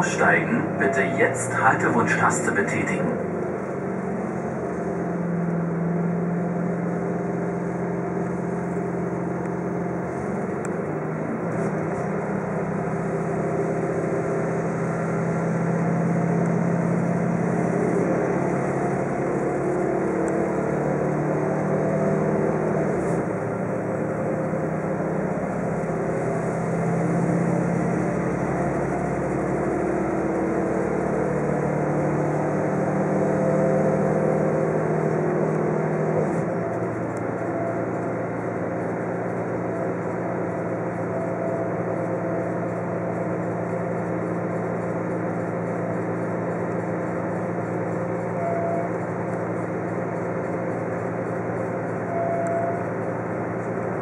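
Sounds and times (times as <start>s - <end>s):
train engine drone: 0.0s - 54.0s
train running noise: 0.0s - 54.0s.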